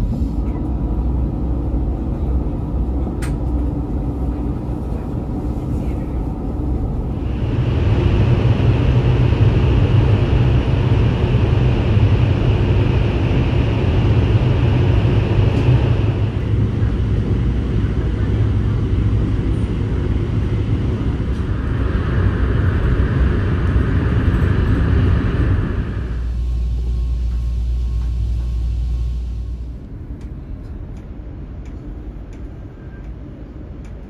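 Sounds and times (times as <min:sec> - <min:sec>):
train cabin low rumble: 0:00.0 - 0:34.0.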